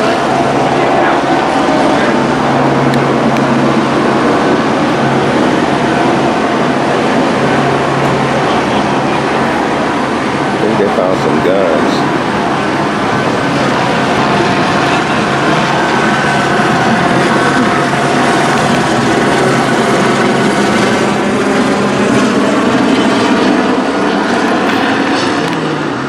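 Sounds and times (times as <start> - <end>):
loud engine drone with tones: 0.0 - 26.0.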